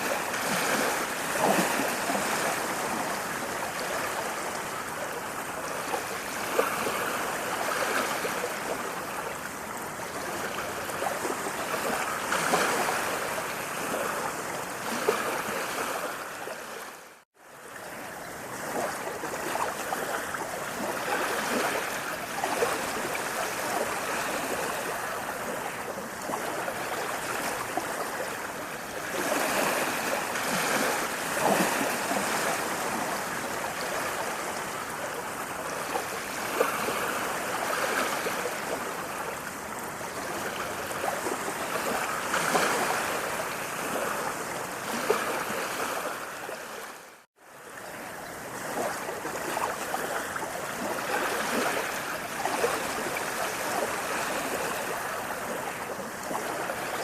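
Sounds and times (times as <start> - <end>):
running water rushing: 0.0 - 57.0
water splashes: 0.0 - 57.0.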